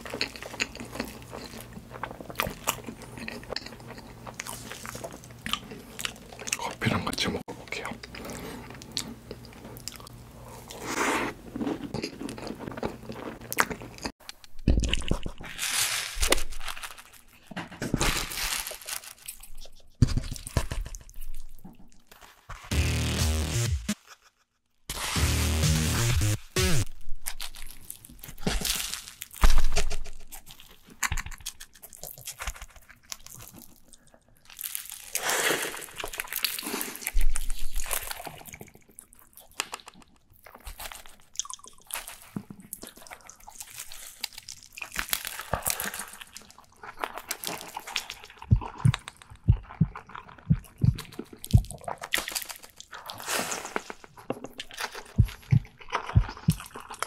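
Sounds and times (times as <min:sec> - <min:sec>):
biting and chewing burger: 0:00.0 - 0:06.8, 0:08.0 - 0:24.4, 0:25.0 - 0:57.0.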